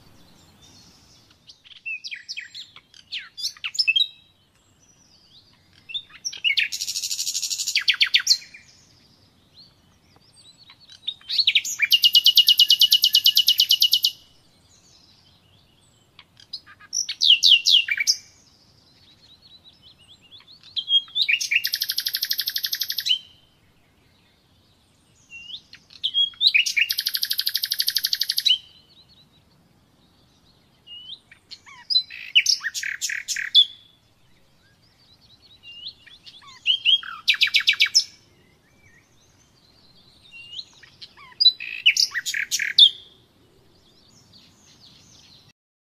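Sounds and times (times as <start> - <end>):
nightingale singing: 0.0 - 45.5.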